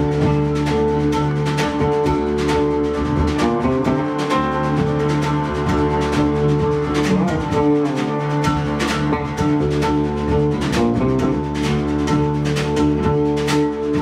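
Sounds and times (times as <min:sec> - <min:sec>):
drum kit: 0:00.0 - 0:14.0
electric bass: 0:00.0 - 0:14.0.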